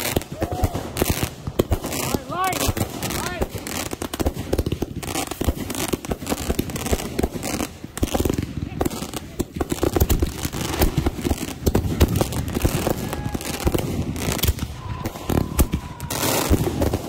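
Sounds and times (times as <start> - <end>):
fireworks popping and crackling: 0.0 - 17.0.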